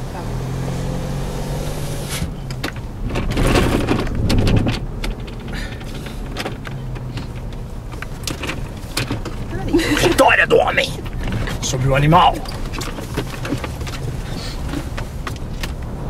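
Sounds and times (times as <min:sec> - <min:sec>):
car engine running inside cabin: 0:00.0 - 0:16.0.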